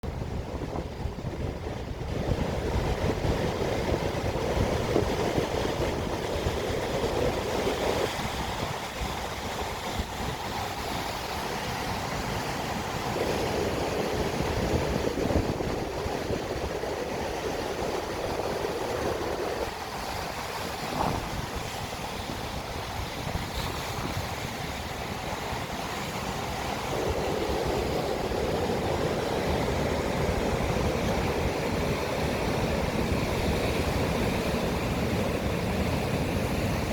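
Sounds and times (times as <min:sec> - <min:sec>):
wind rumble on microphone: 0:00.0 - 0:36.9
ocean waves washing on shore: 0:00.1 - 0:36.9.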